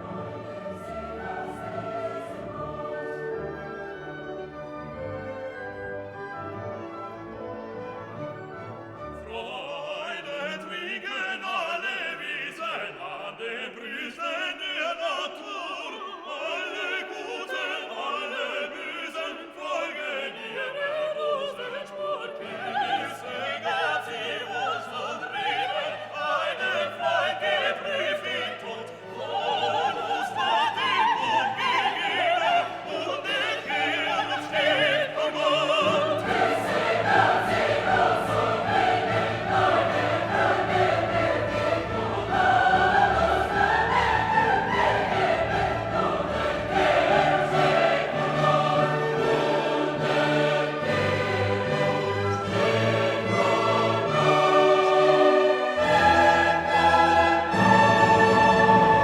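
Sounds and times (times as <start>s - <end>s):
operatic singing: 0.0s - 6.3s, 8.7s - 59.0s
orchestral music: 0.0s - 13.6s, 22.1s - 59.0s.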